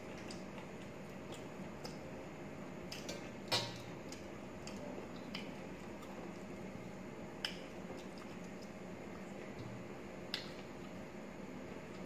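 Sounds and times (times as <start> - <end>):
chewing squishes: 0.0 - 11.2.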